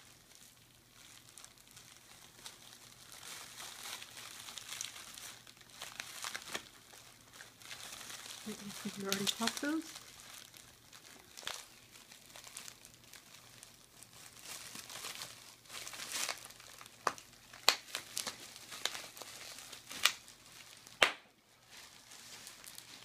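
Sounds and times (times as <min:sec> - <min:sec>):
bubble wrap bubbles popping: 0:00.0 - 0:23.0
bubble wrap crinkling: 0:00.0 - 0:23.0.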